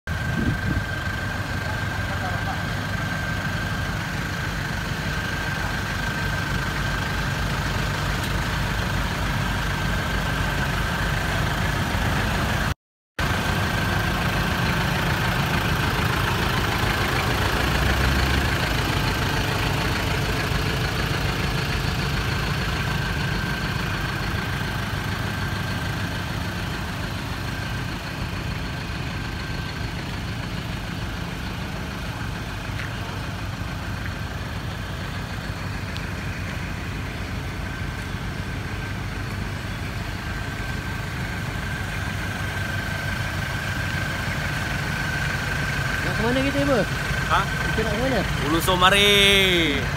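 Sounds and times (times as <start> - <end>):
vehicle engines idling: 0.1 - 49.9.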